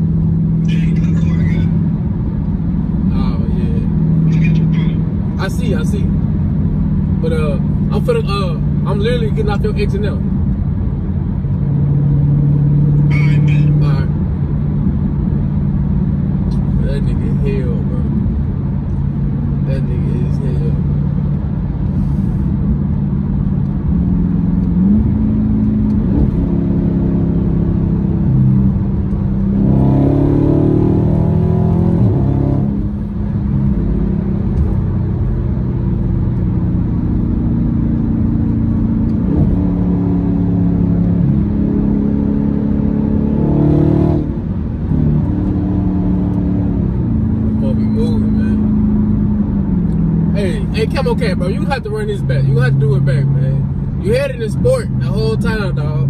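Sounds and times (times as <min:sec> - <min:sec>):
car engine accelerating and shifting: 0:00.0 - 0:56.0.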